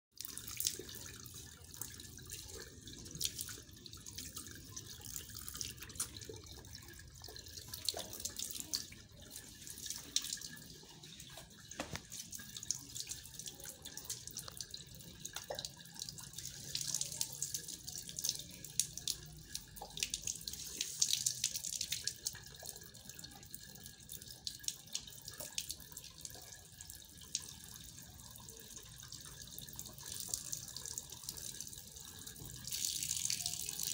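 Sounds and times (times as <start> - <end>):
water splashing onto tiles: 0.2 - 28.0, 28.6 - 33.9
water dripping: 0.2 - 33.9.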